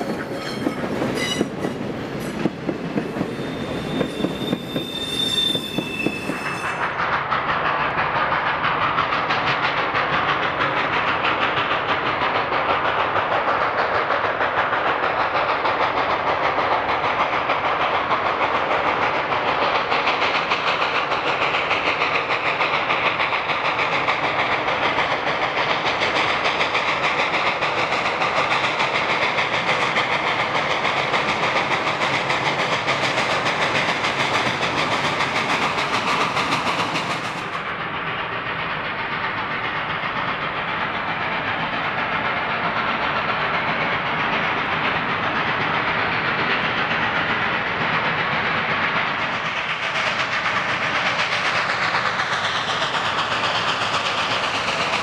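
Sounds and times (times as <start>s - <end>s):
steam: 0.0s - 55.0s
train wheels on rails: 0.0s - 55.0s.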